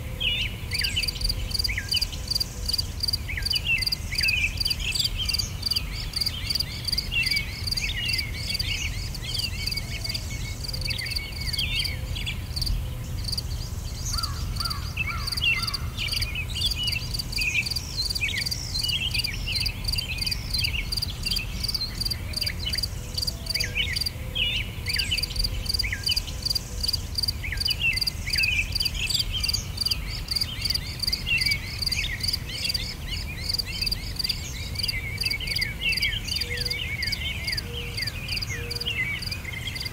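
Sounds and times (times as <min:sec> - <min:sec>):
insects chirping: 0:00.7 - 0:24.1, 0:24.9 - 0:38.6, 0:39.2 - 0:39.9.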